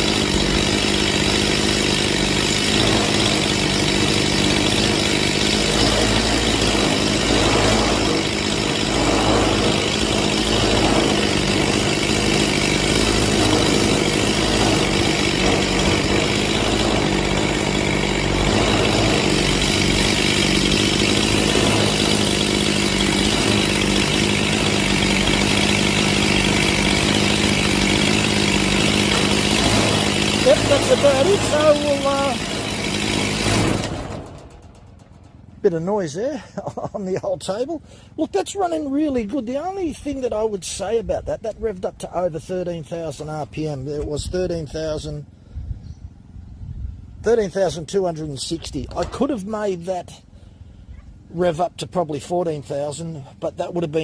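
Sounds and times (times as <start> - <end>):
chainsaw engine idling: 0.0 - 54.0.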